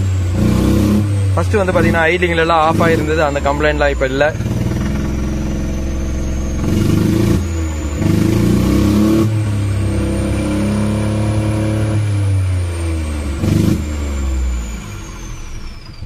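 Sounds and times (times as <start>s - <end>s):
car engine revving: 0.0s - 16.0s
thin high engine whine: 0.0s - 16.0s.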